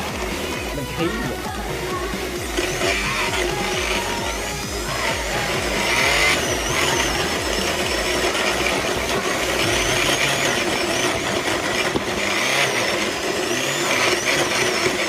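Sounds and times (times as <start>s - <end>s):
blender motor churning liquid: 0.0s - 15.0s.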